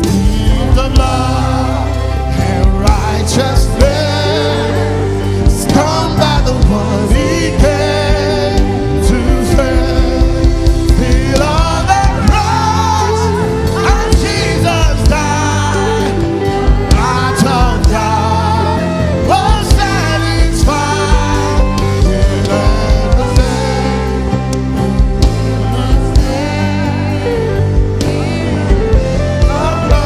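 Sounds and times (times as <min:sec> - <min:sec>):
band playing: 0:00.0 - 0:30.0
congregation singing a hymn: 0:00.0 - 0:30.0.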